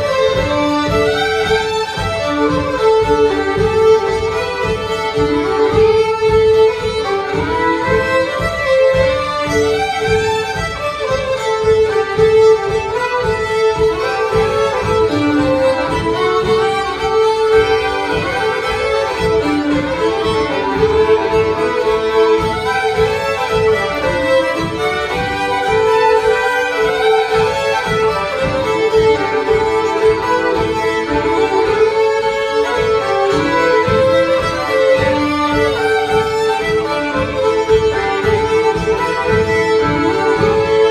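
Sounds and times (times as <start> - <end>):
fiddle drone note: 0.0 - 40.9
fiddles playing a tune: 0.0 - 40.9.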